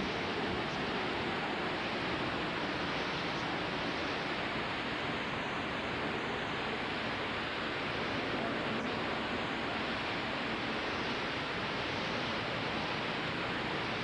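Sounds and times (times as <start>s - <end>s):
hurricane-force wind roaring: 0.0s - 14.0s.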